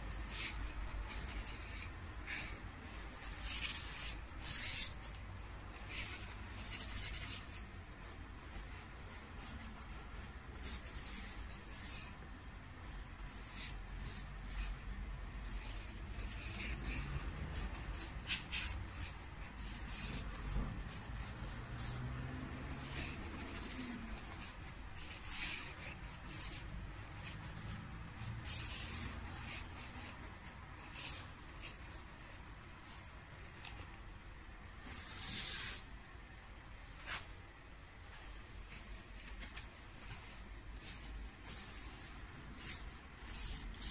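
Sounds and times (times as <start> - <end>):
feather brushing on paper: 0.0 - 12.2, 12.8 - 34.0, 34.8 - 35.9, 38.0 - 43.9.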